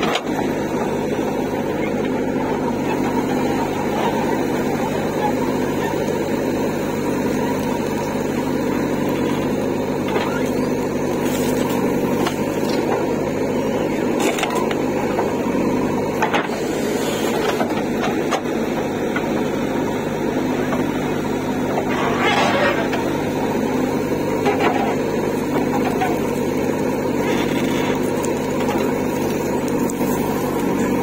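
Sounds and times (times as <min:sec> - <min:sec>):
diesel engine running under load: 0:00.0 - 0:31.0
falling earth: 0:00.0 - 0:31.0.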